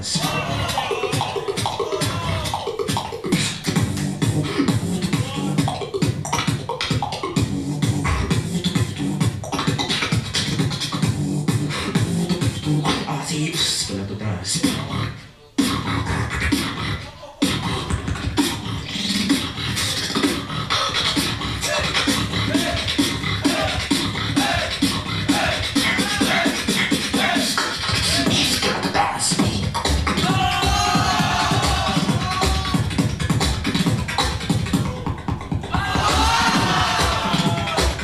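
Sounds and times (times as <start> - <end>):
person beatboxing: 0.0 - 38.0.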